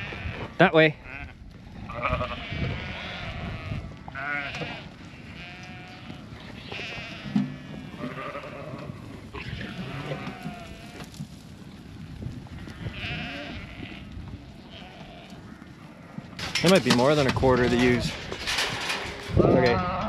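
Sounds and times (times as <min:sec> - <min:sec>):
sheep bleating: 0:00.0 - 0:11.1, 0:12.6 - 0:16.6, 0:17.7 - 0:20.0.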